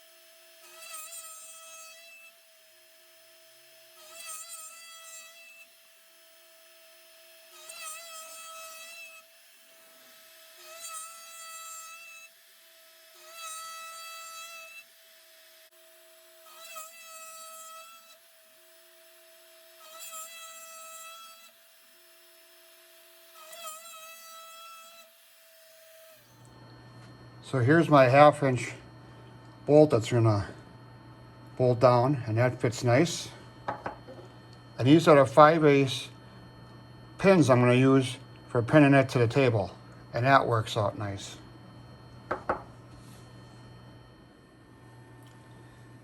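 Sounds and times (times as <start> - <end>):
whining metal cutting: 0.0 - 46.0.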